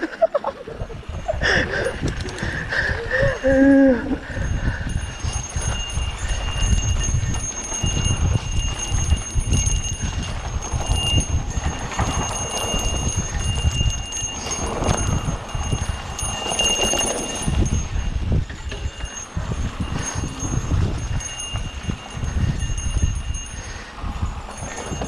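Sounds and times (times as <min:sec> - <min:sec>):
bike rattling over bumps: 0:04.2 - 0:25.0
bike tyres rolling on dirt: 0:04.6 - 0:25.0.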